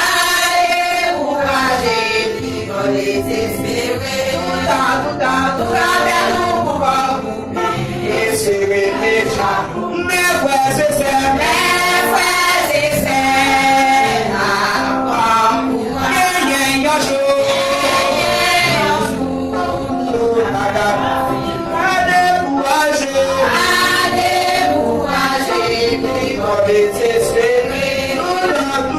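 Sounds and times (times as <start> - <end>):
choir singing a hymn: 0.0 - 28.9.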